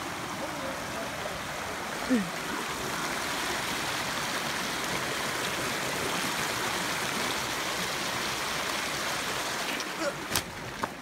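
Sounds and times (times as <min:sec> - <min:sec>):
creek running over stones: 0:00.0 - 0:11.0.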